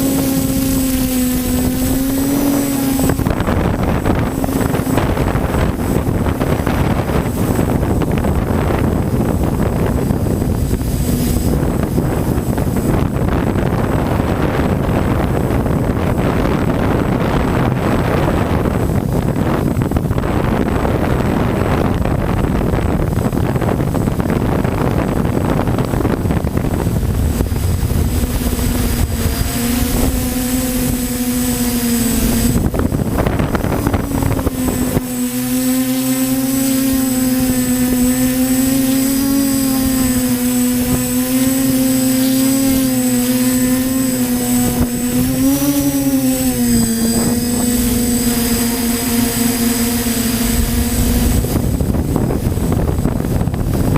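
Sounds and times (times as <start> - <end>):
drone motors and propellers humming: 0.0 - 53.9
wind rumbling on microphone: 0.0 - 53.9.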